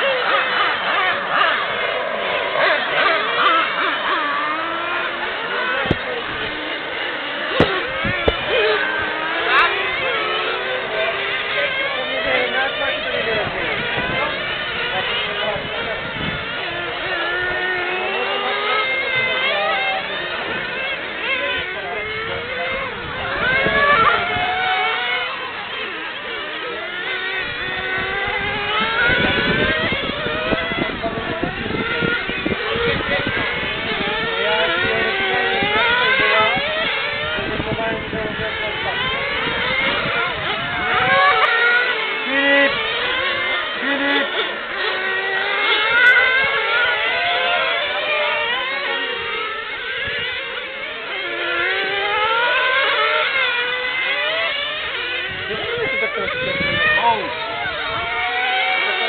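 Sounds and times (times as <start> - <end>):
radio-controlled car engines whining: 0.0 - 59.0.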